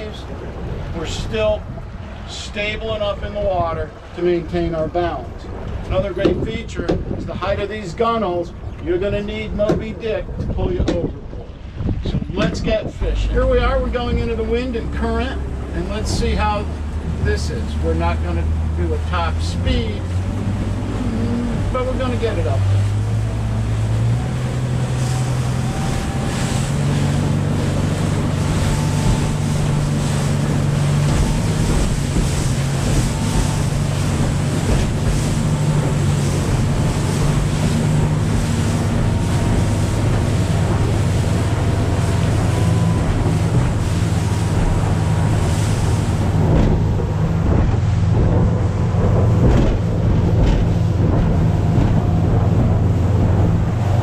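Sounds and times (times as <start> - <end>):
outboard motor running: 0.0 - 54.0
water rushing past: 0.0 - 54.0
wind buffeting microphone: 0.0 - 54.0.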